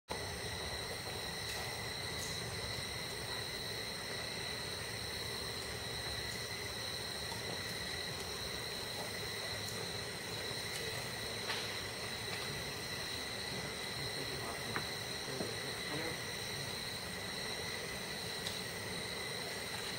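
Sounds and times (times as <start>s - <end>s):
insects droning: 0.1s - 19.9s
low background noise: 0.1s - 19.9s.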